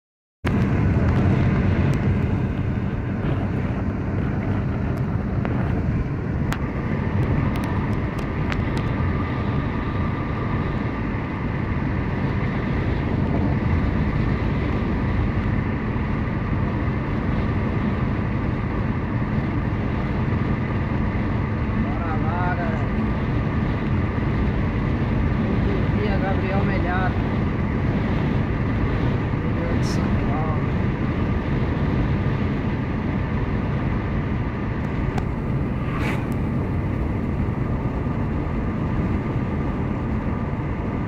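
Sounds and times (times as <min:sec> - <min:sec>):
car tyres and engine rumble: 0:00.4 - 0:41.0.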